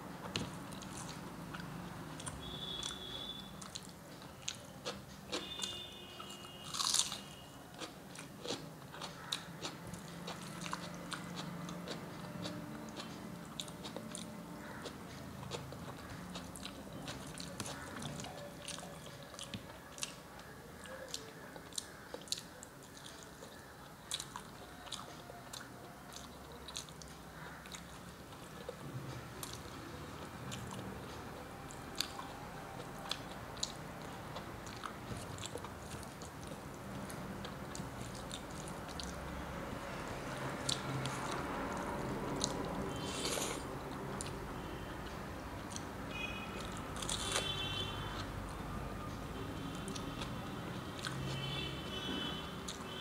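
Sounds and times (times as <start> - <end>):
person chewing and lip smacking: 0.2 - 39.4, 40.3 - 45.9, 46.5 - 50.4, 51.0 - 53.0.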